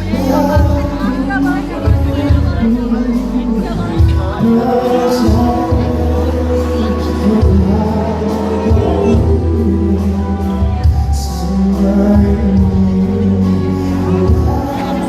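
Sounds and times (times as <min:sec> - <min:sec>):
live pop band: 0:00.0 - 0:15.0
man singing: 0:00.0 - 0:15.0.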